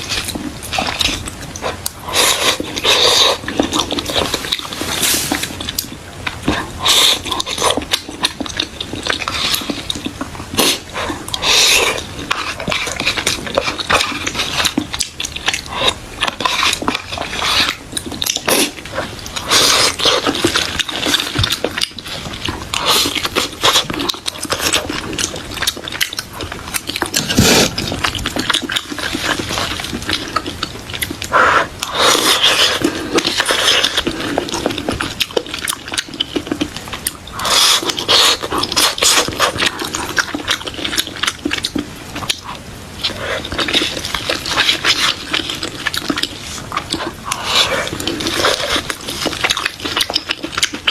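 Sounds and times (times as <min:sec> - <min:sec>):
chewing mouth sounds: 0:00.0 - 0:50.9.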